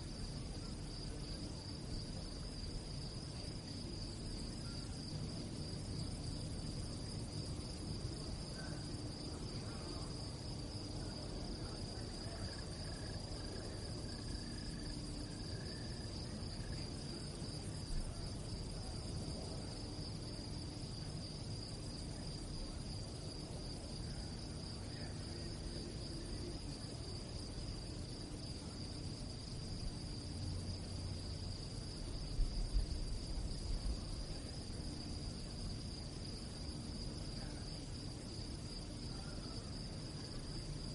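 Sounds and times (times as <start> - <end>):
crickets chirping: 0.0 - 40.9
low background rumble: 0.0 - 40.9.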